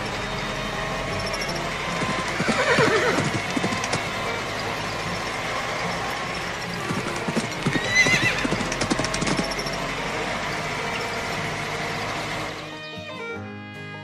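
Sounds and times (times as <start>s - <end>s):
music: 0.0s - 14.0s.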